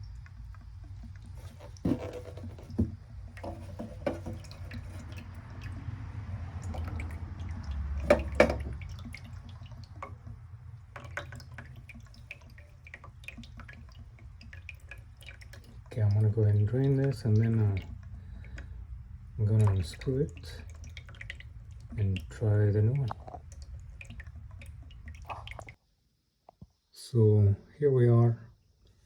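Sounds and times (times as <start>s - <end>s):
water draining and dripping: 0.0s - 25.8s.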